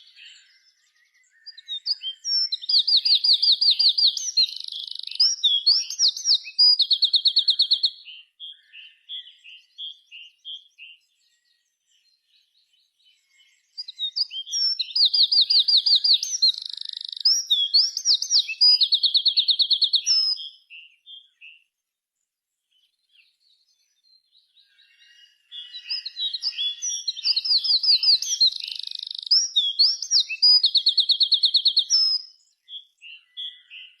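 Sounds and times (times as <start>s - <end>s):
songbird trills and whistles: 0.0s - 21.8s, 22.7s - 34.0s
bird chirps: 0.0s - 34.0s.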